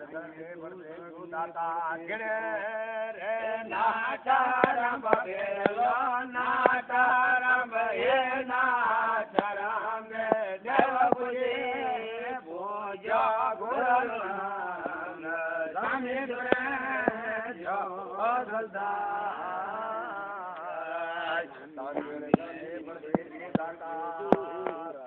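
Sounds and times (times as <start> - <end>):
man chanting: 0.0 - 25.0.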